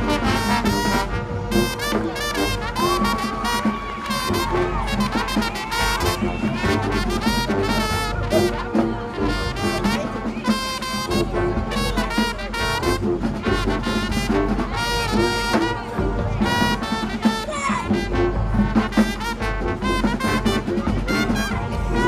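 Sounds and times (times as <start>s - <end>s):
brass playing chords: 0.0s - 22.0s
drumline beat: 0.0s - 22.0s.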